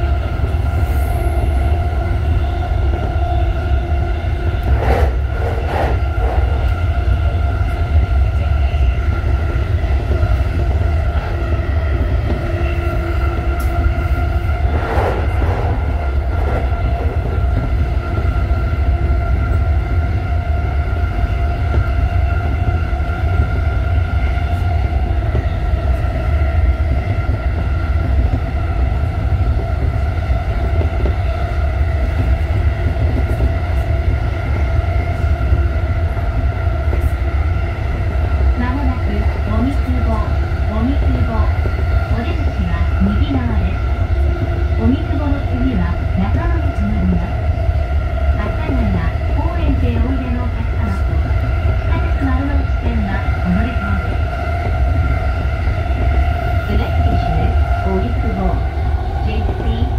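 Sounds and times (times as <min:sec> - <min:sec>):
train interior low rumble: 0:00.0 - 0:59.9.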